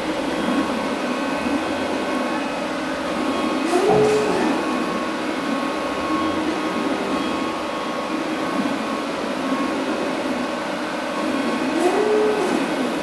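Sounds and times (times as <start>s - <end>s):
stage light cooling fans humming: 0.0s - 13.0s.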